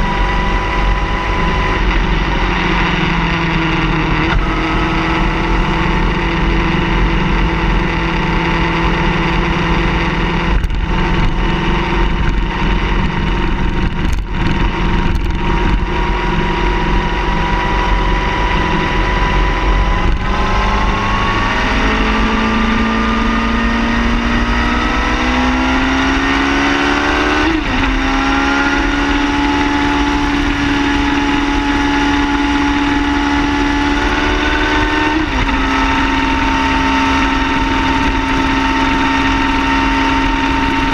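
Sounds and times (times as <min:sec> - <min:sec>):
car engine accelerating: 0:00.0 - 0:40.9
road rumble: 0:00.0 - 0:40.9.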